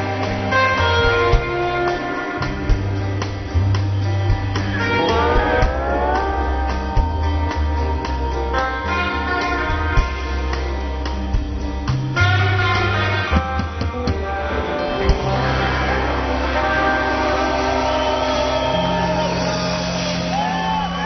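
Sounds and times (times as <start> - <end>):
bass guitar: 0.0 - 21.0
drums: 0.0 - 21.0
electric guitar: 0.0 - 21.0.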